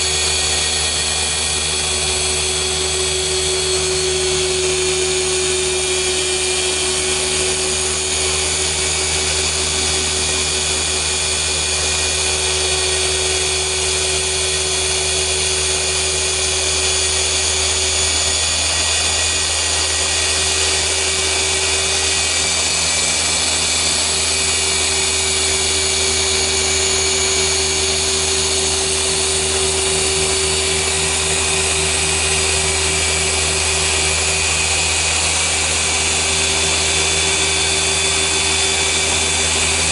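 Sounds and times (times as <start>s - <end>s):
orbital polisher whirring: 0.0s - 39.9s.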